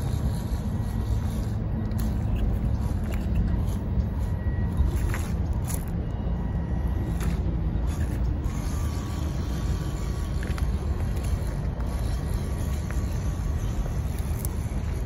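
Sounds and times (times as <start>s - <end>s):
small electric motor whirring: 0.0s - 15.0s
thin whine: 0.0s - 15.0s.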